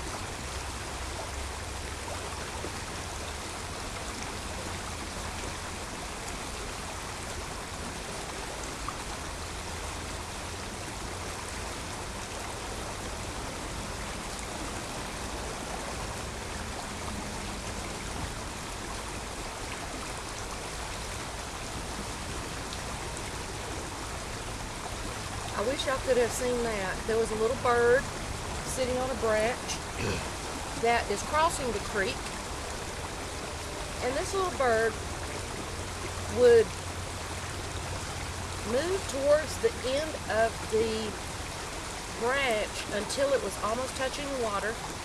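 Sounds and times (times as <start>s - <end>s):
creek water flowing: 0.0s - 45.0s.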